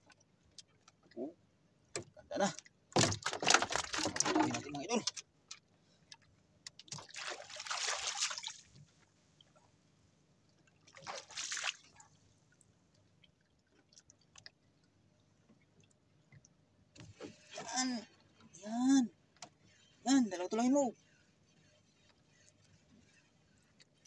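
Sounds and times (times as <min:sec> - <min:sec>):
water splashing against boat: 0:01.9 - 0:09.8, 0:10.5 - 0:24.0.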